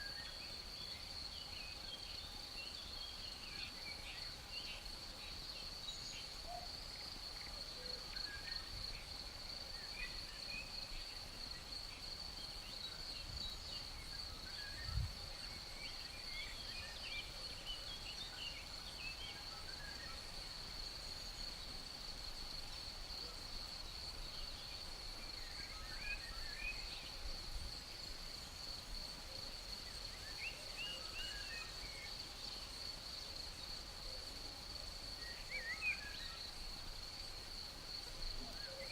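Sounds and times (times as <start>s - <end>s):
crickets trilling: 4.2s - 38.9s.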